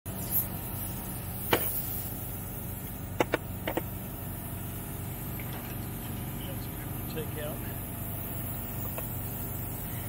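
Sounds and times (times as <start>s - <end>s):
steady low hum: 0.1s - 10.0s.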